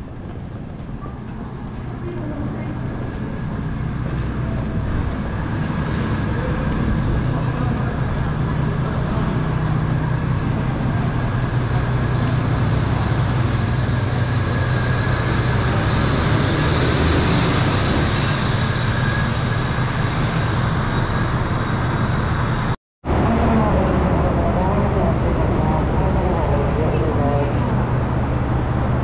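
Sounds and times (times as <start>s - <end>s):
bus engines idling: 0.0s - 29.0s
road traffic: 0.0s - 29.0s.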